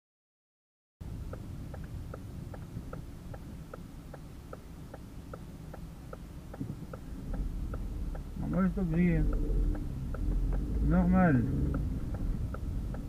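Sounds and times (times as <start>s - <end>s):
car engine rumble: 1.0s - 13.0s
turn signal ticking: 1.0s - 13.0s.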